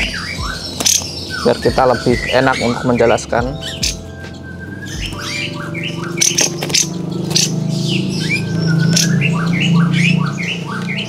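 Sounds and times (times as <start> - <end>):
bird calling harsh notes: 0.0 - 11.0.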